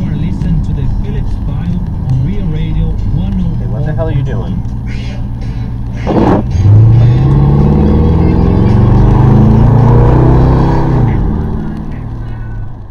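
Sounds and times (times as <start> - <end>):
car engine accelerating: 0.0 - 12.9.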